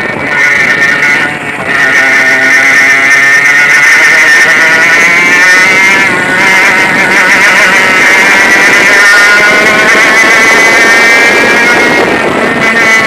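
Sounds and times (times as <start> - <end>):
kart engine revving high: 0.0 - 13.0.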